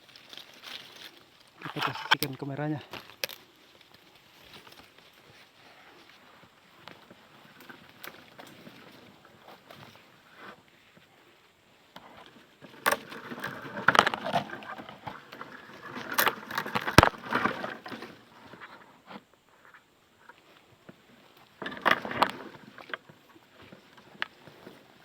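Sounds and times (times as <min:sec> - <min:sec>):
rustling and scraping: 0:00.0 - 0:25.0.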